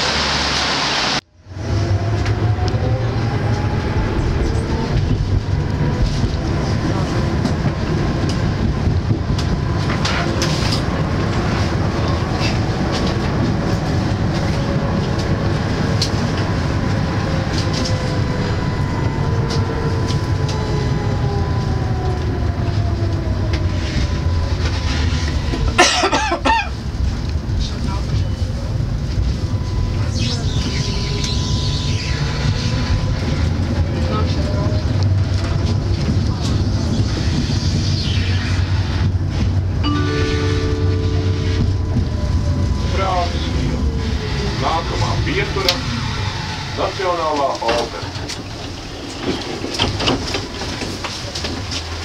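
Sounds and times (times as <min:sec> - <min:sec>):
tram running rumble: 0:00.0 - 0:52.0.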